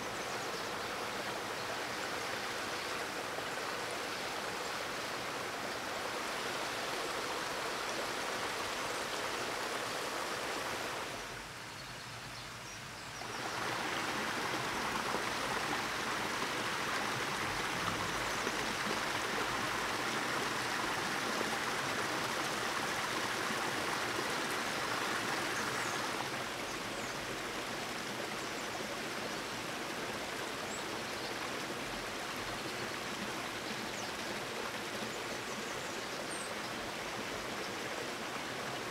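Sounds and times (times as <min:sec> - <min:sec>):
running water rushing: 0:00.0 - 0:12.3, 0:12.9 - 0:38.9.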